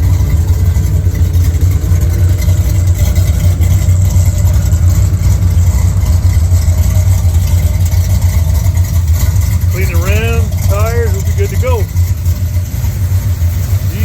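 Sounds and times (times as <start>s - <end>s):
pickup engine idling loudly: 0.0s - 14.0s.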